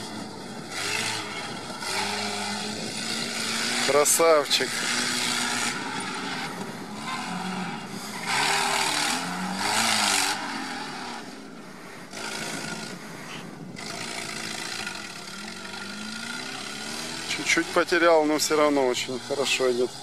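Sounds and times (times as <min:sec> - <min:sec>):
petrol engine revving: 0:00.0 - 0:20.0.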